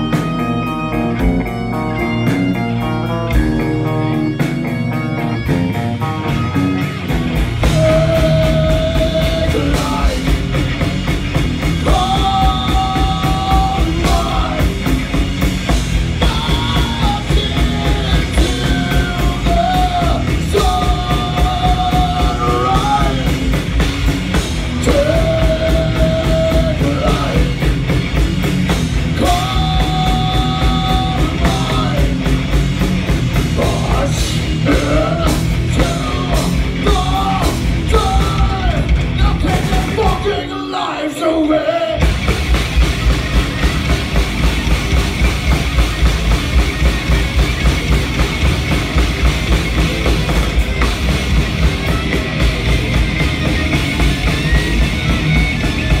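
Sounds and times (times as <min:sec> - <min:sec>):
rapid drumming: 0:00.0 - 0:40.5, 0:42.0 - 0:56.0
electric guitars: 0:00.0 - 0:56.0.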